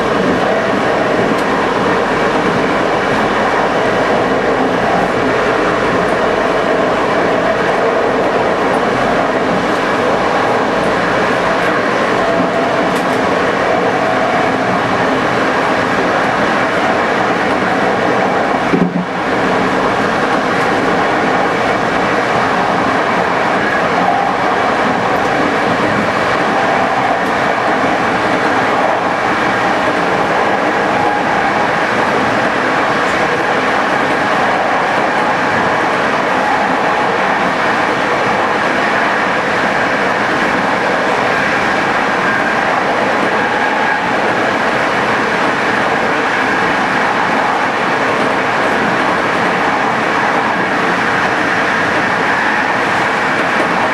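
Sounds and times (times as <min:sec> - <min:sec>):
train wheels rolling on rail: 0:00.0 - 0:53.9.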